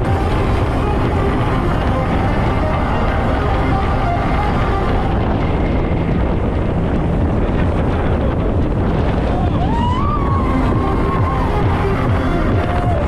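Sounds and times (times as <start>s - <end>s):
rushing water: 0.0s - 13.0s
speedboat engine roar: 0.0s - 13.0s
wind buffeting microphone: 0.0s - 13.0s.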